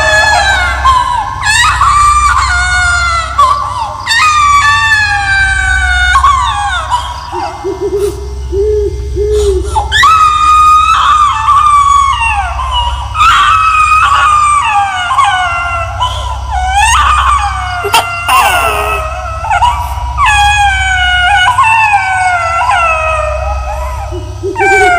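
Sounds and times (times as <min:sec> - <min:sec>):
baby crying and wailing: 0:00.0 - 0:08.3, 0:09.3 - 0:24.9
low rumbling drone: 0:00.0 - 0:24.9.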